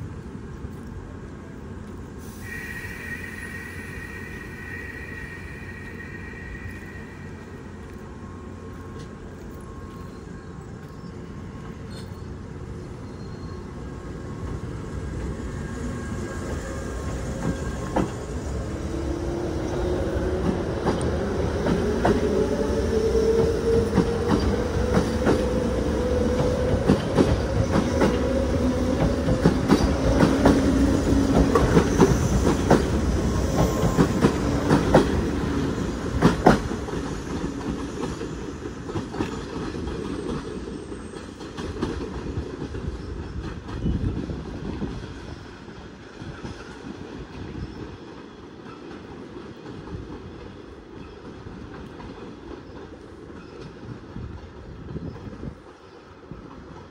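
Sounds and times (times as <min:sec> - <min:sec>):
electric train whine: 0:00.1 - 0:50.2.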